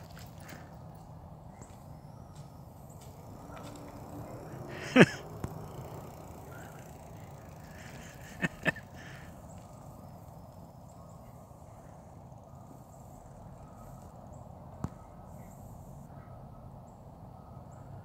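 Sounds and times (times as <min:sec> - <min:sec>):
outdoor background hum: 0:00.0 - 0:18.0.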